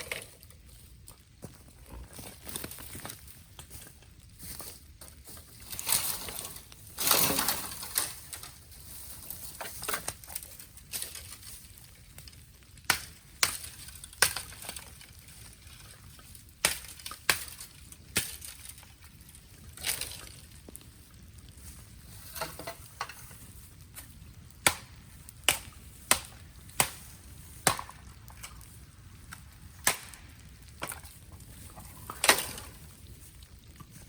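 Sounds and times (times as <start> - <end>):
bamboo crackling and popping: 0.0 - 34.0
crunching rustle: 0.0 - 34.0.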